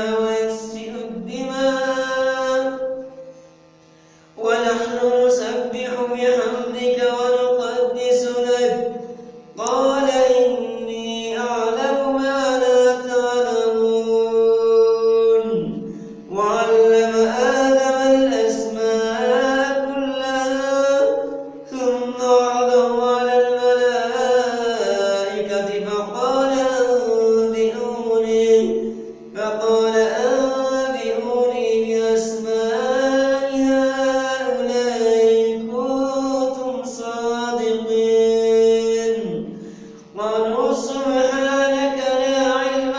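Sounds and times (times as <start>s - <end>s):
man reciting melodically: 0.0s - 3.1s, 4.4s - 42.9s.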